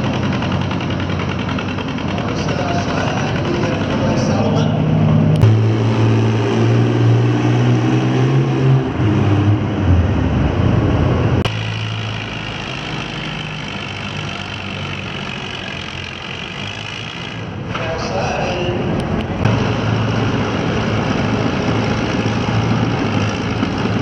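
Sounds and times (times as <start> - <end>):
tractor engine running under load: 0.0 - 8.0, 11.1 - 24.0.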